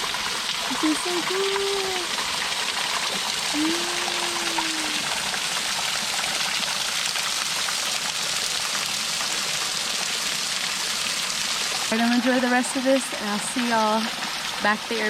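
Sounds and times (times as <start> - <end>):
waterfall splashing onto rock: 0.0 - 15.0.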